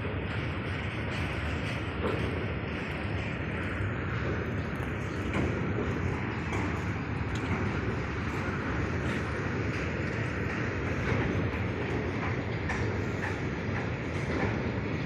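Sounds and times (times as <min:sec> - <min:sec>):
freight wagons rumbling on rails: 0:00.0 - 0:15.0.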